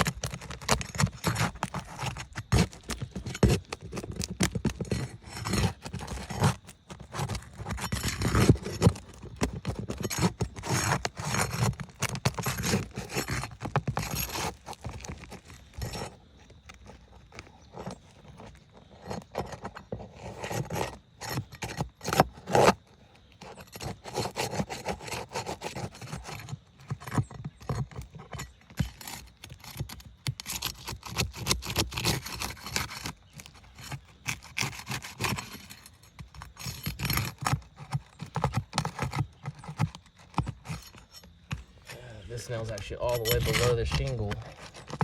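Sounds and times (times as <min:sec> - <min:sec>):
tool scraping roof shingles: 0:00.0 - 0:45.0.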